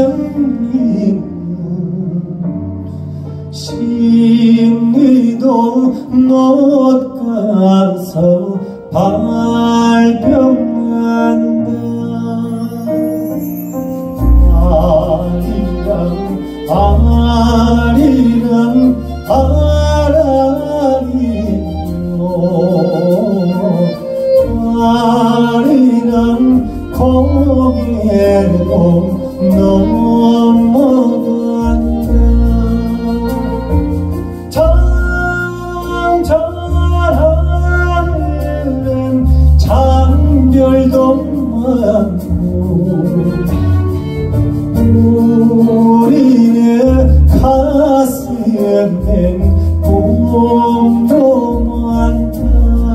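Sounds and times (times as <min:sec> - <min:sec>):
man singing with ornamented voice: 0:00.0 - 0:02.9, 0:03.5 - 0:52.9
double bass and band: 0:00.0 - 0:52.9.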